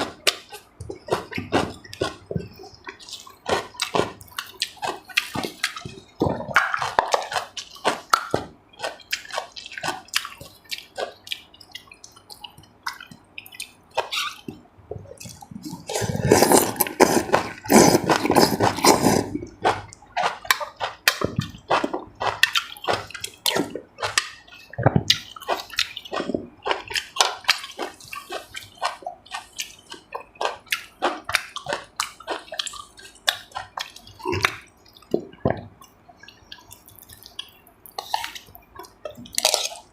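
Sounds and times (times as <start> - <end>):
chewing and mouth smacks: 0.0 - 39.9.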